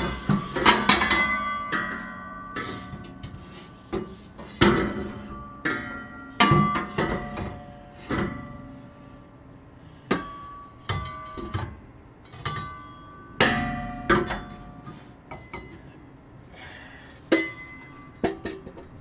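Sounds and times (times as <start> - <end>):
metallic clanks with ringing: 0.0 - 16.4, 17.2 - 19.0.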